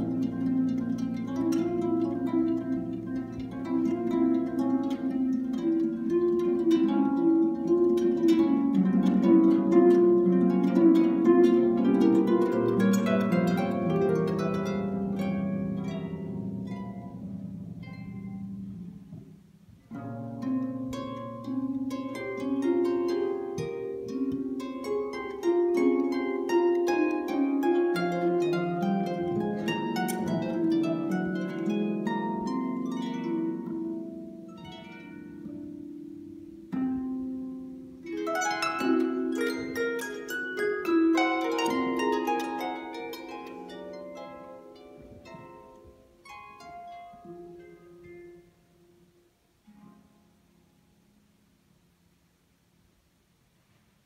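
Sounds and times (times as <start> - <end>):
solo harp playing: 0.0 - 52.2.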